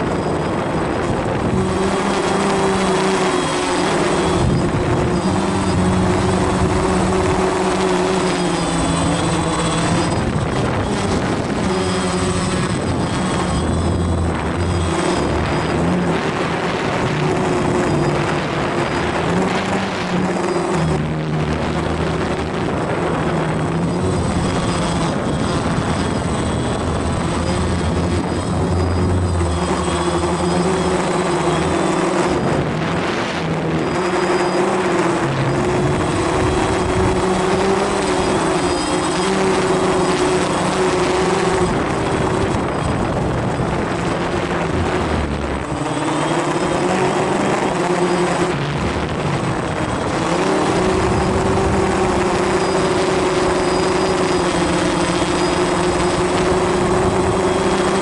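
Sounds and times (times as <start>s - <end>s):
drone propellers buzzing: 0.0s - 58.0s
steady rush of noise: 0.0s - 58.0s.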